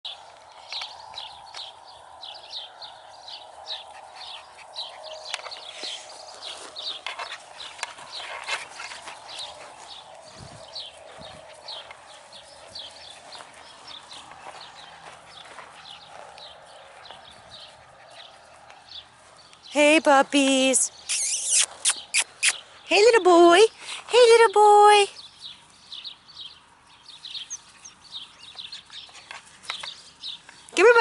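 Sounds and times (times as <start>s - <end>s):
birds chirping: 0.1s - 31.0s.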